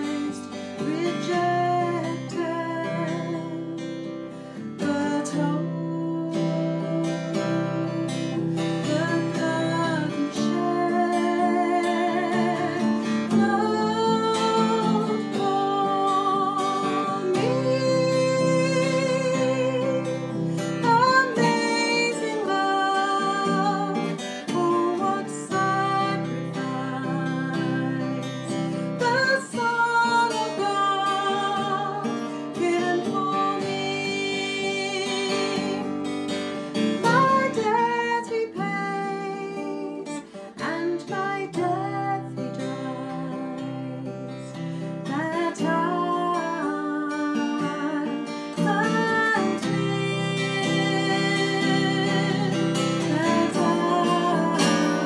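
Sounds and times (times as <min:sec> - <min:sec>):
woman singing worship song: 0:00.0 - 0:03.8, 0:04.7 - 0:36.0, 0:36.7 - 0:55.0
acoustic guitar strumming: 0:00.0 - 0:55.0.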